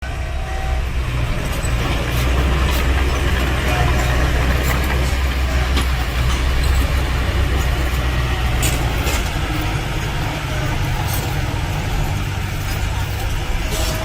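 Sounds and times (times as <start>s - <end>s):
heavy machinery engine drone: 0.0s - 14.0s.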